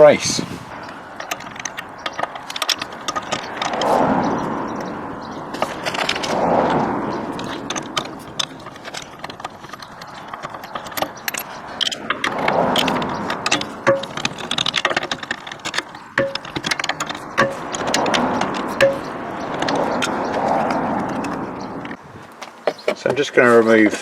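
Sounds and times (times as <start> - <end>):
wheel brace on wheel nuts: 0.0 - 24.0.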